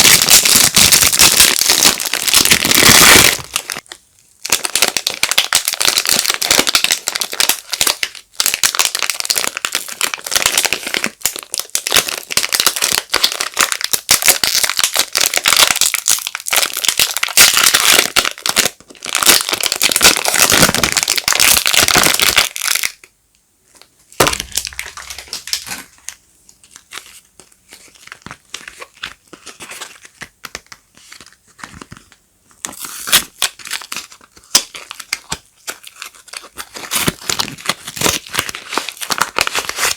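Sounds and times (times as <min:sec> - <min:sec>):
wrapper crinkling and rustling: 0:00.0 - 0:23.0, 0:24.2 - 0:39.9.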